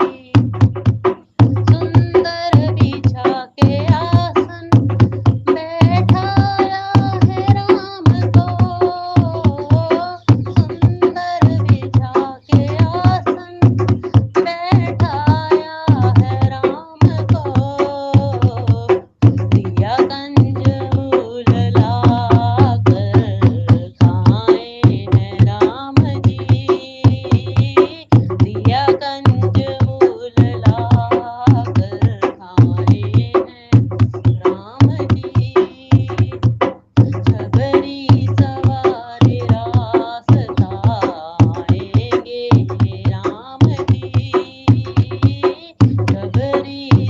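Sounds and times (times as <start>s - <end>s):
hand drums beating: 0.0s - 47.0s
person singing devotional song: 0.0s - 47.0s.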